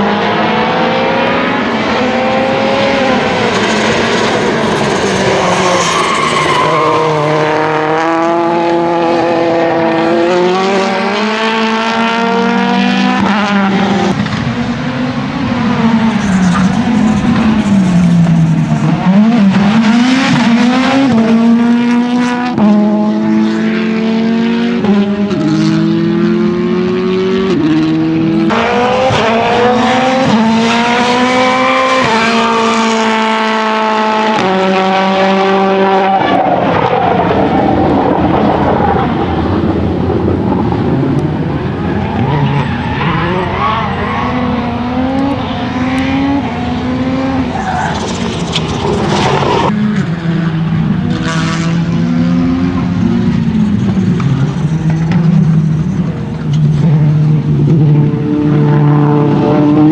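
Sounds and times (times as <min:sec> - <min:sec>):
rally car accelerating hard: 0:00.0 - 0:59.9.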